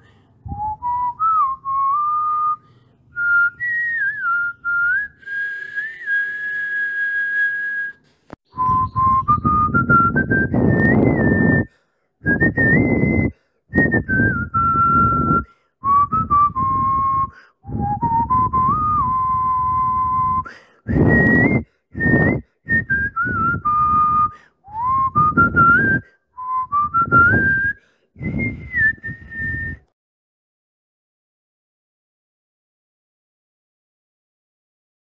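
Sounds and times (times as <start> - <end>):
person whistling a slow melody: 0.4 - 2.6, 3.2 - 30.0.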